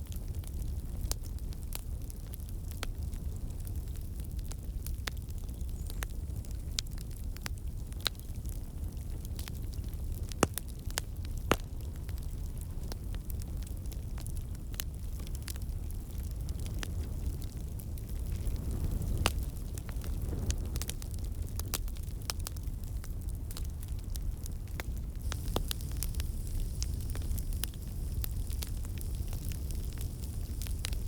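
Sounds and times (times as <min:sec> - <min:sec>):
fire crackles and pops: 0:00.0 - 0:31.0
fire rumbling: 0:00.0 - 0:31.0.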